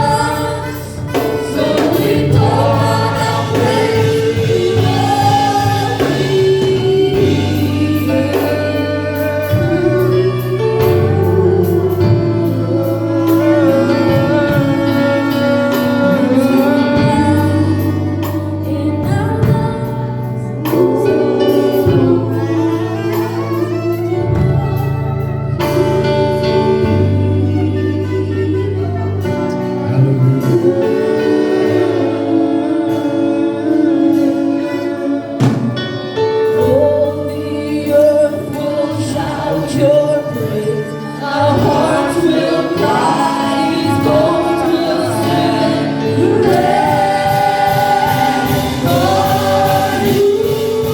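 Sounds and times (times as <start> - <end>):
bass: 0.0 - 50.9
gospel choir singing: 0.0 - 50.9
keyboard chords: 0.0 - 50.9.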